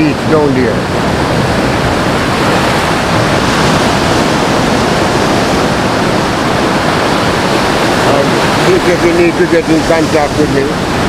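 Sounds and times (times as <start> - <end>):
sea surf rushing at shore: 0.0 - 11.0.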